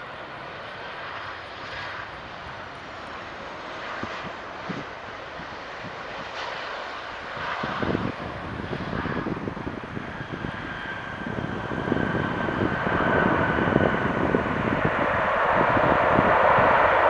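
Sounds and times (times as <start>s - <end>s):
jet engine rushing with whine: 0.0s - 17.0s
wind buffeting microphone: 0.0s - 17.0s.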